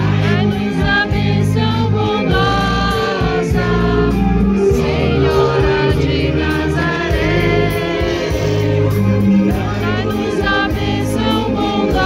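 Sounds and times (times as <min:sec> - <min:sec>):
choir singing held notes: 0:00.0 - 0:12.0
low accompaniment: 0:00.0 - 0:12.0.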